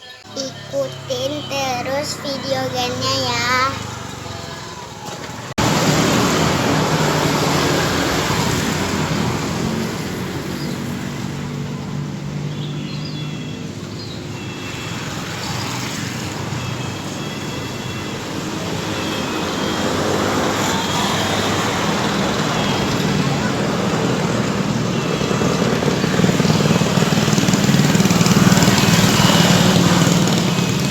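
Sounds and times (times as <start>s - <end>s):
passing vehicle engines: 0.0s - 30.9s.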